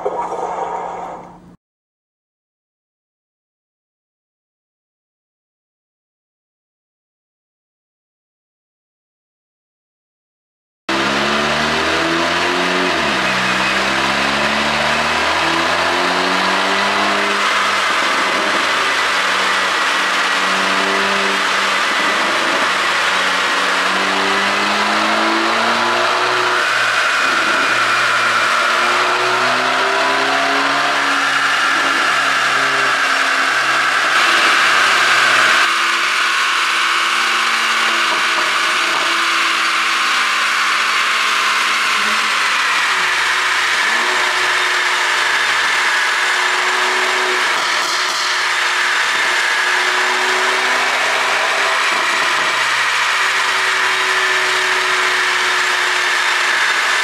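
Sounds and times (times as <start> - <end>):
car engine revving: 10.9 - 57.0.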